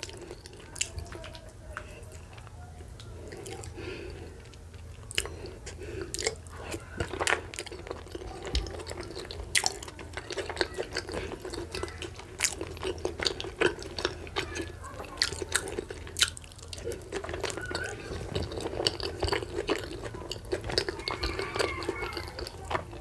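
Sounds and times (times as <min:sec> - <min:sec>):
fingers working soft food: 0:00.0 - 0:23.0
low steady hum: 0:00.0 - 0:23.0
wet chewing with mouth clicks: 0:00.0 - 0:23.0.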